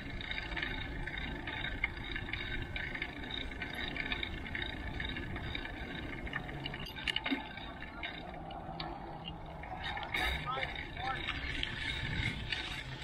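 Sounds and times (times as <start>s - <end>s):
bike tyres rolling on pavement: 0.0s - 13.0s.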